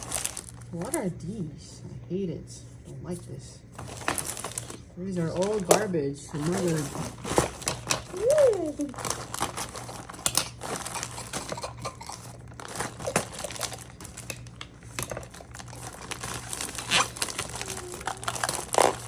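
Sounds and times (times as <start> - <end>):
plastic packaging crinkling: 0.0 - 1.2, 3.7 - 19.0.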